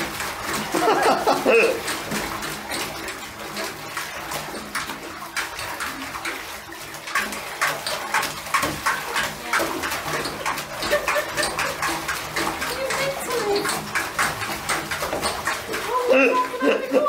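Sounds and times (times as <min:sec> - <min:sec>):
puppy splashing water: 0:00.0 - 0:17.0.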